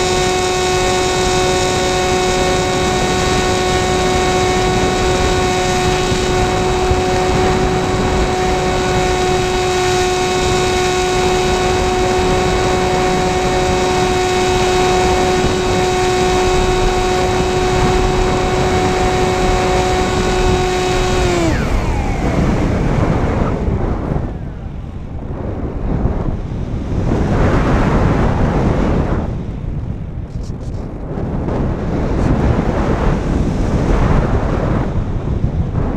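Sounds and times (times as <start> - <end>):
electric motor and propeller whine: 0.0 - 35.9
wind rushing over microphone: 0.0 - 35.9.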